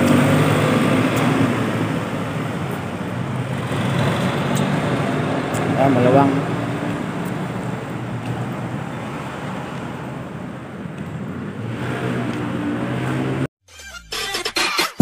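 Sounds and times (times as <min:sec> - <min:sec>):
road traffic: 0:00.0 - 0:13.5.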